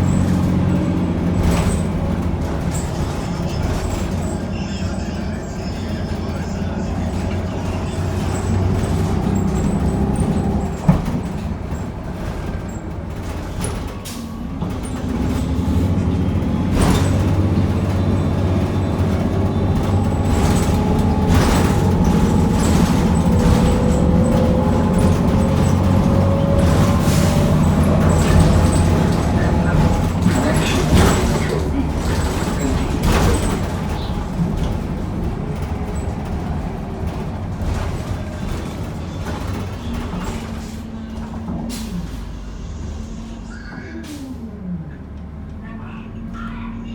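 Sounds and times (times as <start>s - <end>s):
bus engine and transmission whine: 0.0s - 46.9s.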